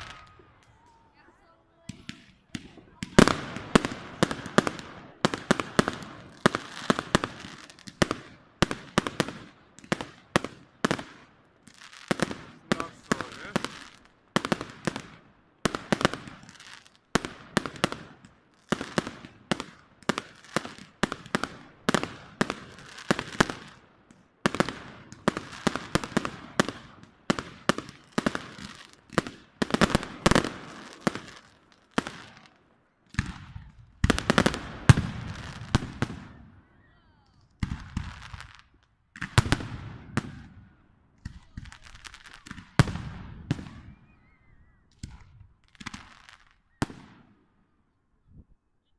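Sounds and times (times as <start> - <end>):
fireworks bursts and bangs: 0.0 - 47.5.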